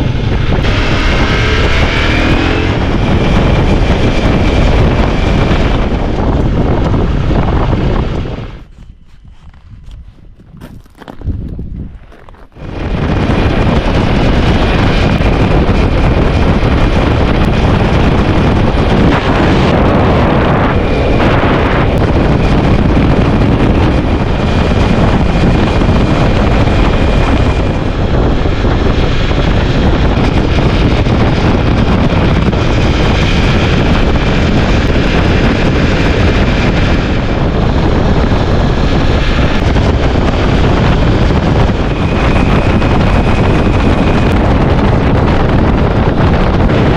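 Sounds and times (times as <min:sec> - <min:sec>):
motorcycle running: 0:00.0 - 0:46.9
wind noise on microphone: 0:00.0 - 0:46.9.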